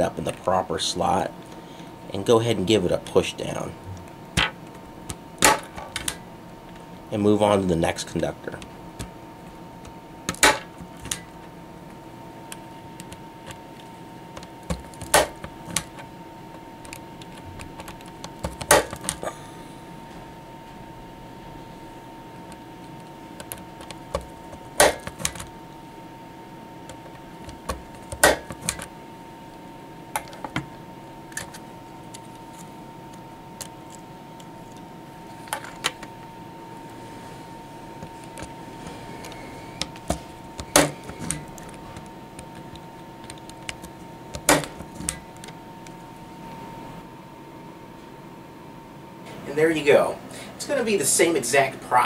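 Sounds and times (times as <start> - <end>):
faint hum: 0.0 - 52.0.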